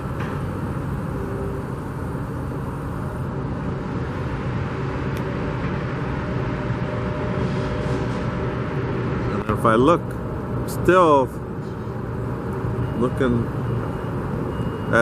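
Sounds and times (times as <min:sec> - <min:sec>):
road traffic rumble: 0:00.0 - 0:15.0
site machinery: 0:00.0 - 0:15.0.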